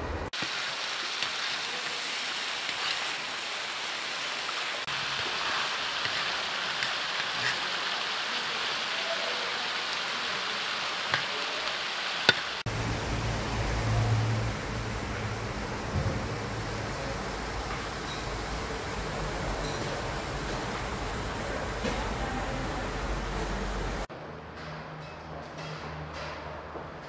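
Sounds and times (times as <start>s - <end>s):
vegetables sizzling in oil: 0.3s - 24.1s.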